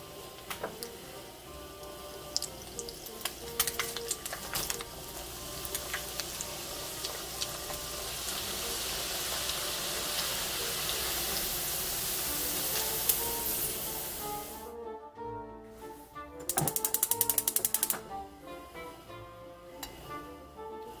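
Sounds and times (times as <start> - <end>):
pork sizzling in hot oil: 0.0 - 14.7, 16.5 - 18.9
faint background music: 0.0 - 21.0.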